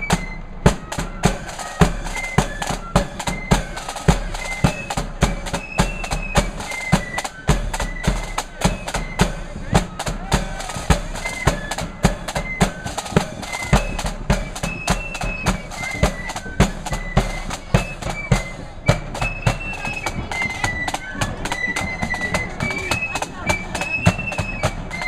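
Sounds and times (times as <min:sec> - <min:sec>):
flute melody: 0:00.0 - 0:25.0
snare and bass drums beating: 0:00.0 - 0:25.0.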